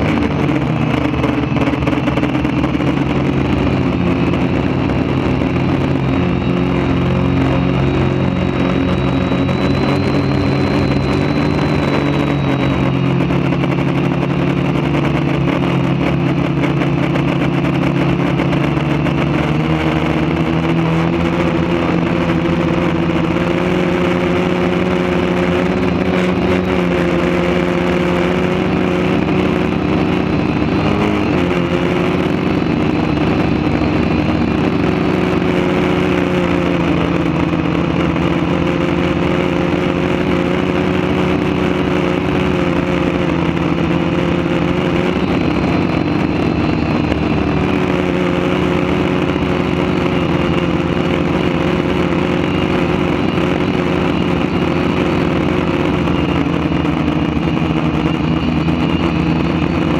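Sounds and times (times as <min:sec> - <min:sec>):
drone propellers whirring: 0:00.0 - 0:59.9.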